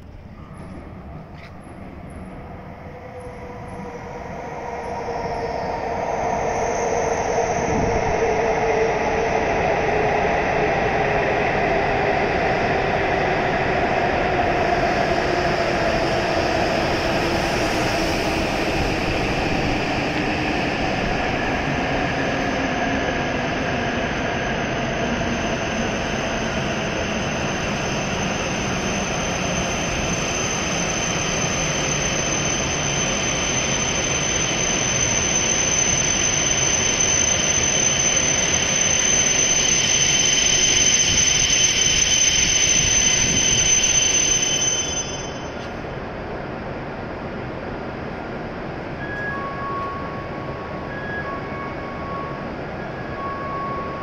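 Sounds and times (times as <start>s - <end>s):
train motor whine: 0.0s - 23.3s, 24.5s - 46.0s
train running noise: 0.0s - 54.0s
high brake squeal: 0.2s - 11.0s, 15.0s - 45.9s, 48.9s - 54.0s.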